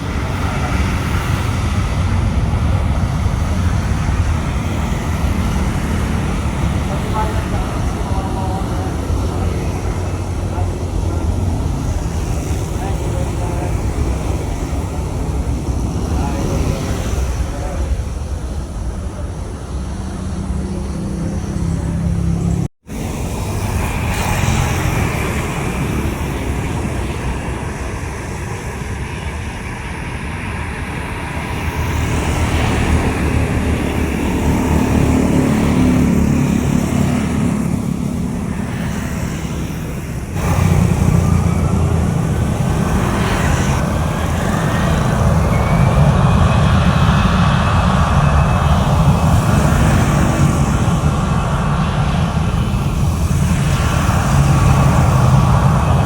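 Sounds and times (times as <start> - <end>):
faint engine whine: 0.0 - 56.0
jet engines rumbling: 0.0 - 56.0.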